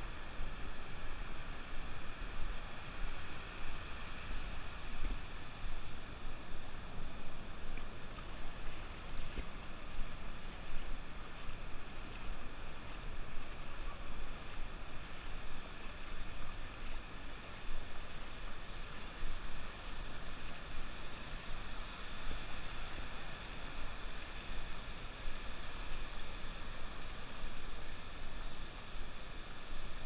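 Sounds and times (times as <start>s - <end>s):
ocean surf washing up beach: 0.0s - 30.0s
wind rumble on microphone: 0.0s - 30.0s.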